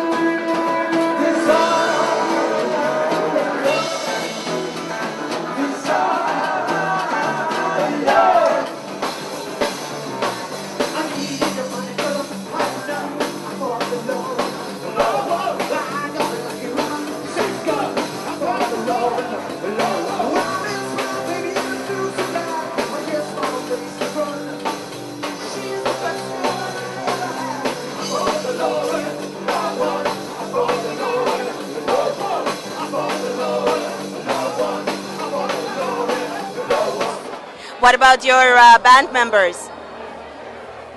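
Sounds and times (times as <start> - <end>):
man singing lead: 0.0 - 9.0, 10.7 - 37.9
live rock band playing: 0.0 - 39.5.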